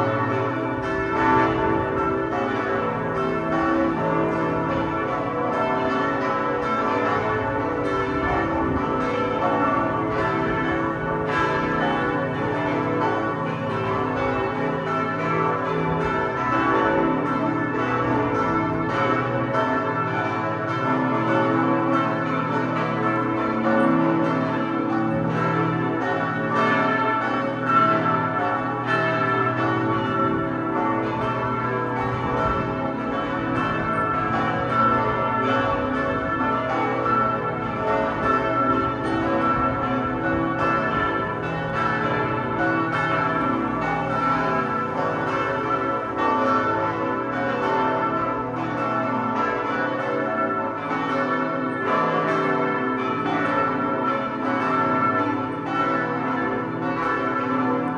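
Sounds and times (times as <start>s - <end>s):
church bells ringing: 0.0s - 57.9s.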